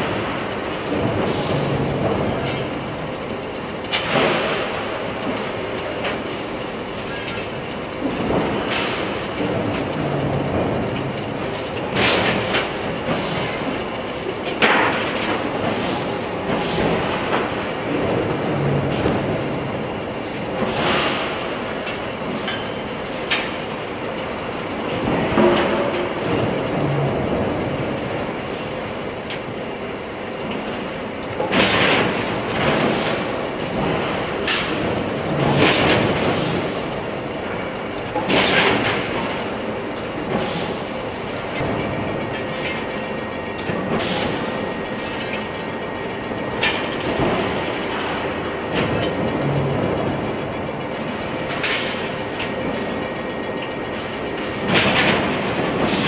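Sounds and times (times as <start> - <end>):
industrial machinery din: 0.0 - 56.0.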